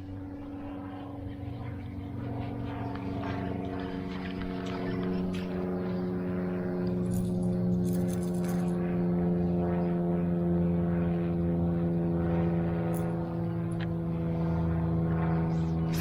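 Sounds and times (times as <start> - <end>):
steady motor drone: 0.0 - 16.0.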